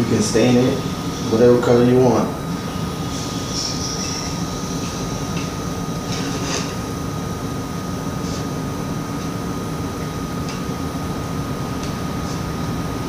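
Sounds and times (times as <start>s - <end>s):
low mechanical hum: 0.0s - 13.0s
thin whine: 0.0s - 13.0s.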